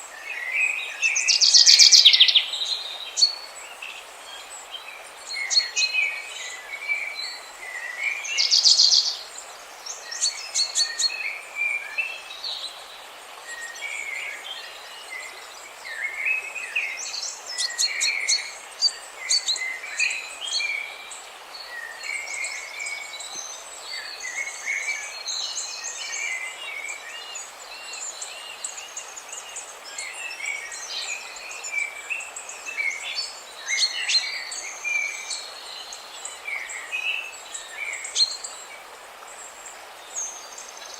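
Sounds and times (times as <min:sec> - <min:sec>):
songbirds chirping and trilling: 0:00.0 - 0:40.9
steady hiss: 0:00.0 - 0:40.9.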